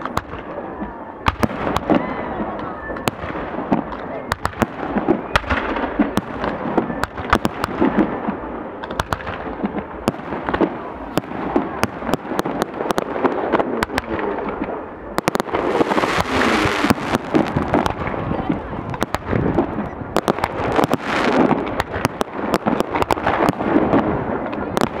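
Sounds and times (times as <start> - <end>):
continuous rumbling: 0.0 - 25.0
fireworks bangs and crackling: 0.0 - 25.0.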